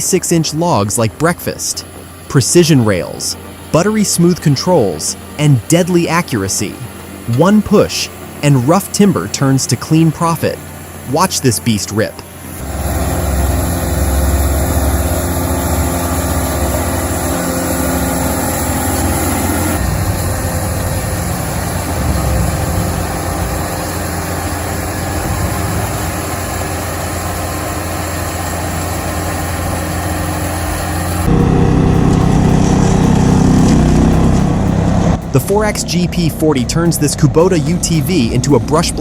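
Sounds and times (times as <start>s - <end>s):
sawmill sawing a log: 0.0s - 39.0s.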